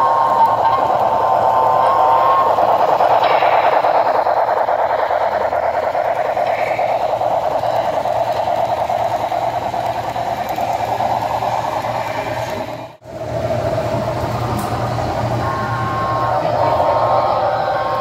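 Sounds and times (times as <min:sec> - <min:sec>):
model train running on rails: 0:00.0 - 0:18.0.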